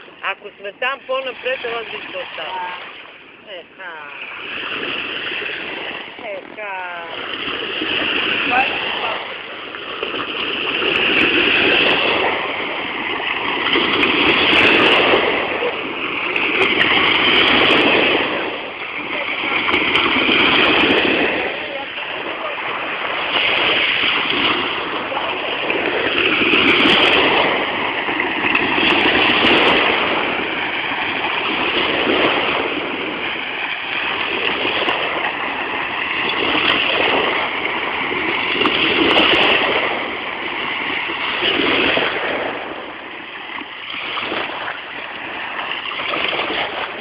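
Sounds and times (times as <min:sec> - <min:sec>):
waves lapping on shore: 0:00.0 - 0:47.0.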